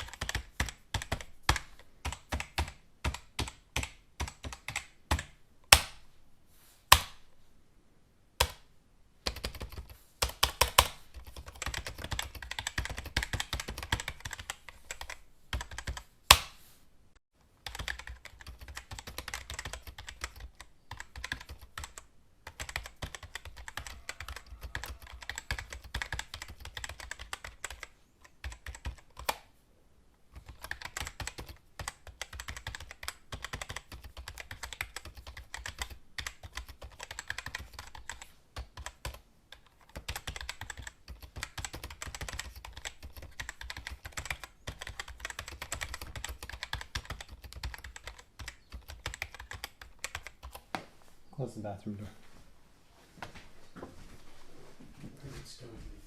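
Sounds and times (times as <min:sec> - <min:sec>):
keyboard typing: 0:00.0 - 0:06.0, 0:08.4 - 0:16.5, 0:17.6 - 0:29.5, 0:30.3 - 0:50.7.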